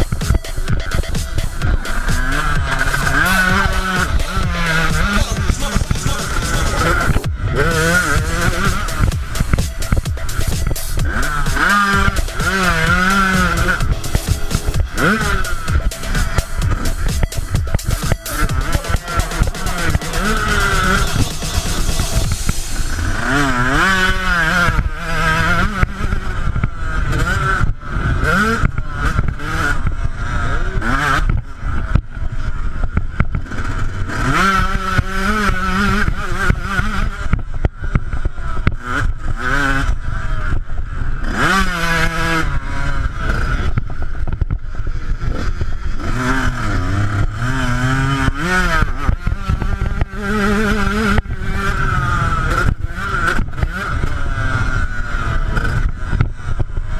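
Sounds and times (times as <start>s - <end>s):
motocross engine revving: 0.0s - 56.9s
rough noise: 0.0s - 56.9s.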